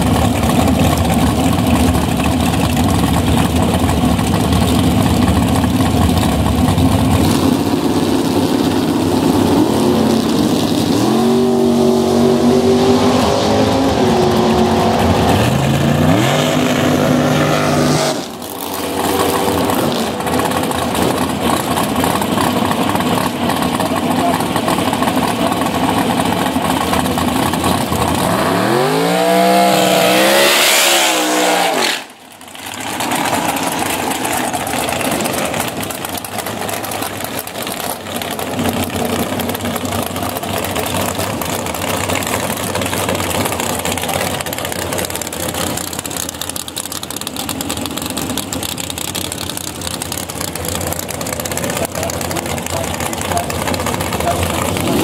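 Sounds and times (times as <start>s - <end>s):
steady engine drone: 0.0s - 55.0s.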